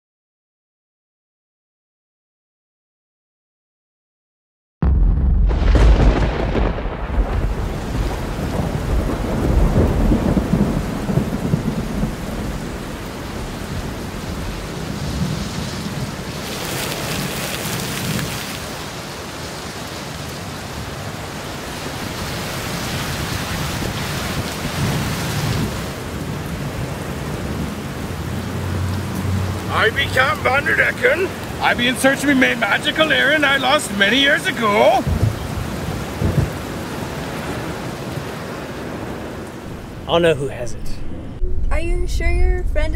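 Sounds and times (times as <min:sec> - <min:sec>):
thunder rumbling: 0:04.8 - 0:19.0, 0:20.4 - 0:42.9
heavy rain: 0:04.8 - 0:41.3.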